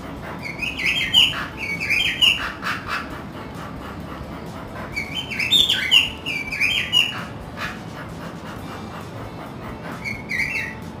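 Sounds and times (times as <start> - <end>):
parrot chirping: 0.0 - 11.0.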